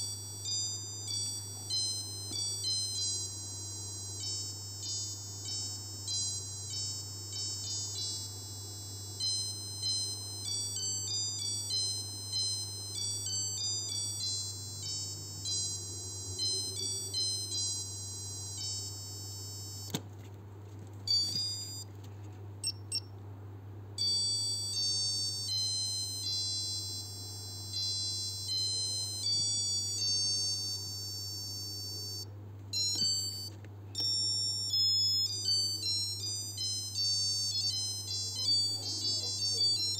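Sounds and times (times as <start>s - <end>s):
watch alarm beeping melody: 0.0s - 19.9s, 21.1s - 21.8s, 24.0s - 39.9s
steady low hum: 0.0s - 39.9s.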